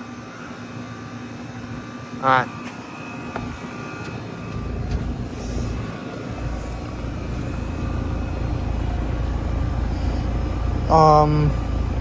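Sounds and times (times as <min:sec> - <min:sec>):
condenser fan: 0:00.0 - 0:12.0
heat pump compressor hum: 0:00.0 - 0:12.0.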